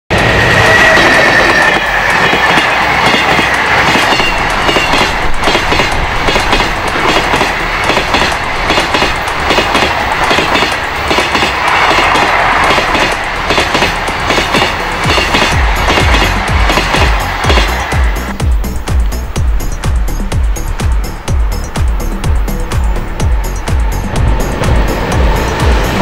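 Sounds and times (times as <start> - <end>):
train wheels clattering over rail joints: 0.6 - 26.0.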